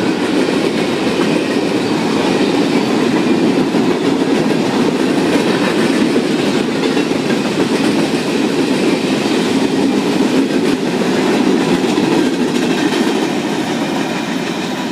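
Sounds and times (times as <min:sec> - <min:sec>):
railroad cars rumbling: 0:00.0 - 0:14.9.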